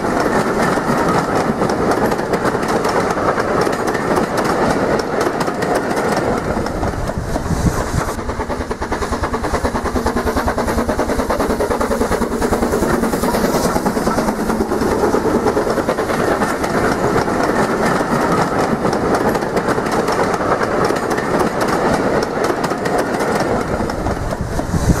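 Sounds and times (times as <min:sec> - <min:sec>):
wheel clicks on rail joints: 0:00.0 - 0:24.7
model train rattling on track: 0:00.0 - 0:25.0.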